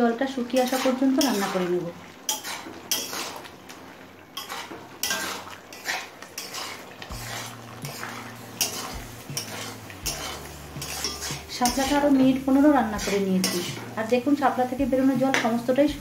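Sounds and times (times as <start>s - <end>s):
spatula scraping metal wok: 0.4s - 3.7s, 4.3s - 15.8s.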